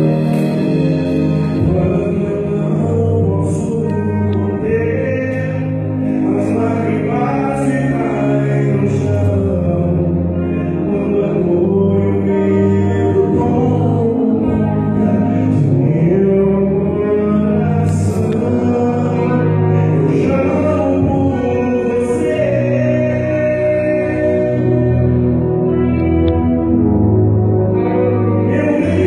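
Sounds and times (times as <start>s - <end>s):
man singing: 0.0s - 26.6s, 27.9s - 29.0s
rock band playing: 0.0s - 29.0s.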